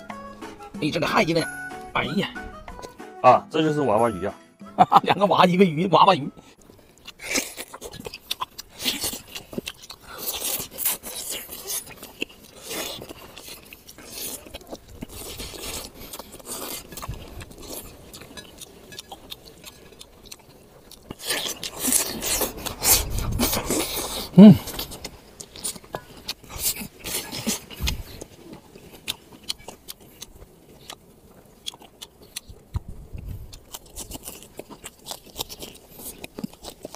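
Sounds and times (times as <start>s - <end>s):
man chewing and sucking food: 6.4s - 36.9s.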